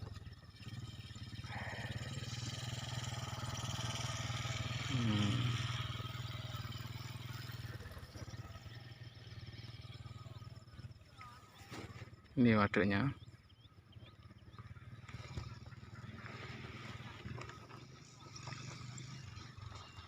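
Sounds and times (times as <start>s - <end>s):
motorcycle engine passing: 0.0s - 20.0s.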